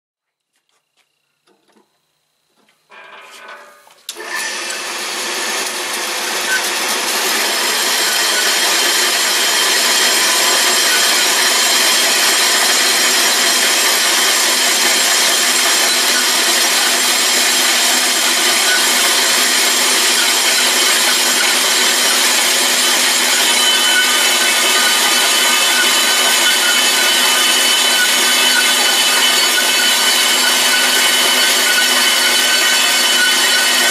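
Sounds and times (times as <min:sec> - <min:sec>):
band saw cutting metal rod: 0:04.1 - 0:33.9.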